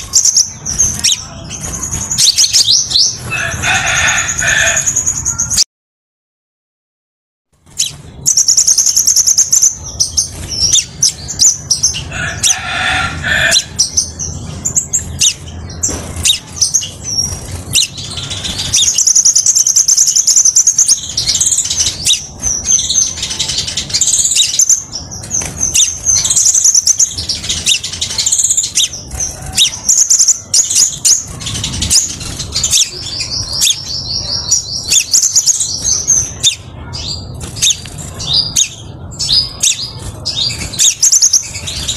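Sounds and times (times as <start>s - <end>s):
bird singing rapid chirps and trills: 0.0s - 5.6s, 7.6s - 41.9s.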